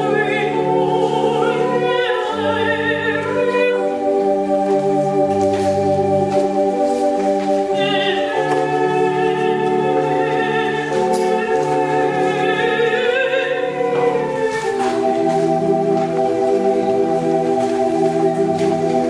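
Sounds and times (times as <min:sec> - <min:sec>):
person singing with vibrato: 0:00.0 - 0:05.3, 0:05.9 - 0:17.6
organ music: 0:00.0 - 0:19.0.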